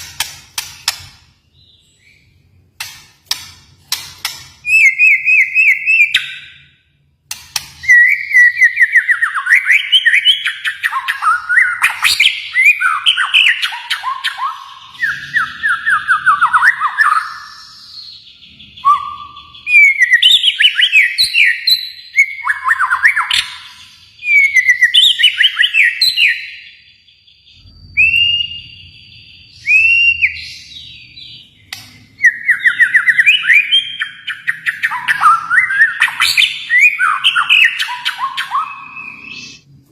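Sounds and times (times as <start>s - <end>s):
bird singing whistled trills: 4.6s - 6.9s, 7.8s - 39.7s.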